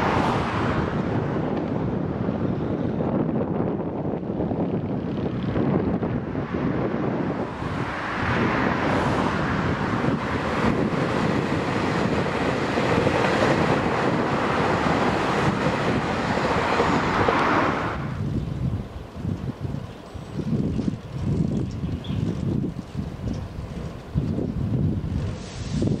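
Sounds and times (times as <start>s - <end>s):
electric train passing at speed: 0.0s - 26.0s
wind buffeting microphone: 0.0s - 26.0s.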